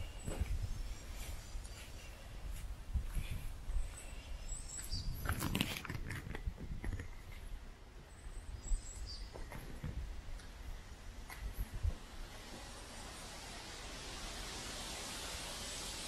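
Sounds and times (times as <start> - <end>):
low rumble on microphone: 0.0 - 13.6.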